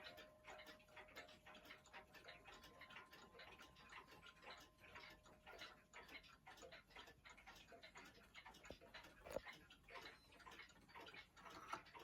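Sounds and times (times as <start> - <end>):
mechanical clock ticking: 0.0 - 12.0.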